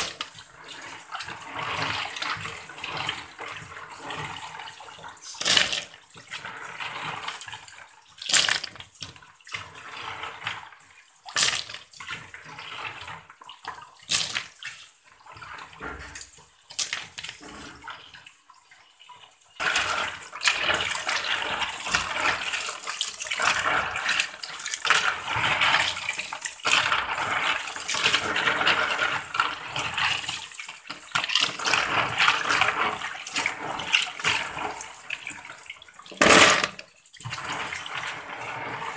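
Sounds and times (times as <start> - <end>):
tap running into a basin: 0.0 - 38.9
water splashing and sloshing: 0.0 - 38.9.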